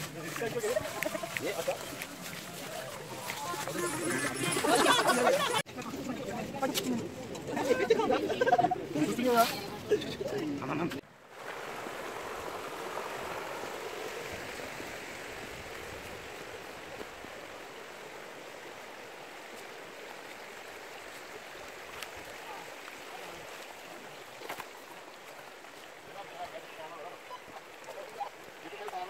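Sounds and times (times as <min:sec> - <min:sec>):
creek water rushing over stones: 0:00.0 - 0:08.1, 0:08.8 - 0:29.0.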